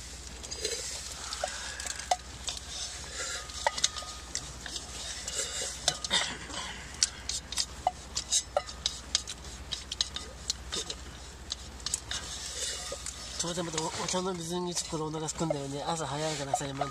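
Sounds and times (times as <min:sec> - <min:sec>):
metal mug clinking: 0:00.4 - 0:16.9.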